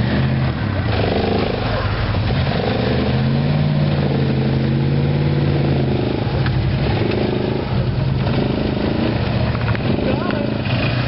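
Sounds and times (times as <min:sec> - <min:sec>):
atv engines running hard: 0:00.0 - 0:11.0.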